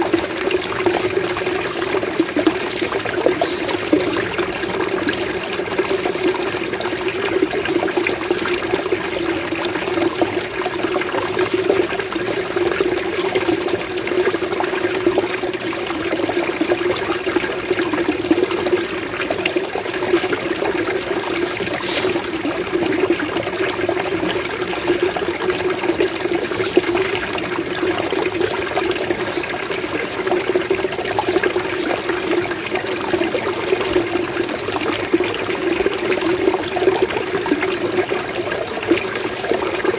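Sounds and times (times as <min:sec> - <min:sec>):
running water gurgling: 0:00.0 - 0:39.9.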